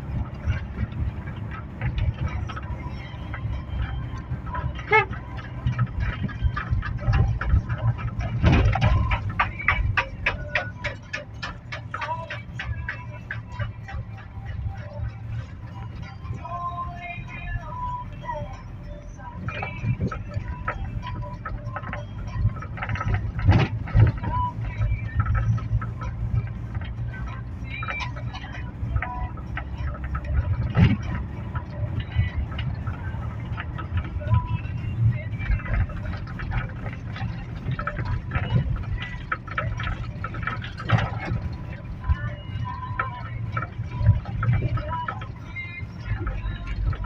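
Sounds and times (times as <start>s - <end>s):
car road and engine rumble: 0.0s - 47.0s
small rattles and clicks: 0.0s - 47.0s.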